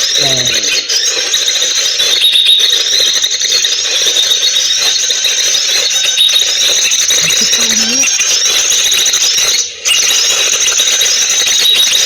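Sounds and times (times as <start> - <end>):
recorded bird song through speaker: 0.0 - 12.0.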